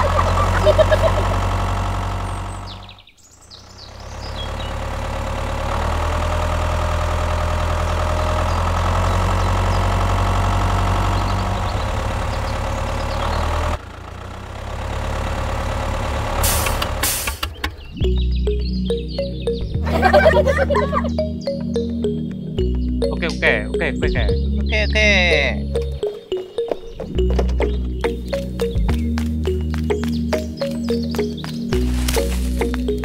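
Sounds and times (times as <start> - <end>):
tractor engine idling: 0.0 - 33.0.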